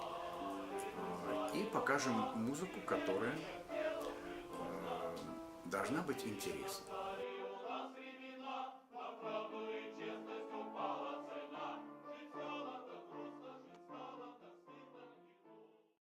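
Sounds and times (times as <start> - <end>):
choir singing in harmony: 0.0 - 15.8.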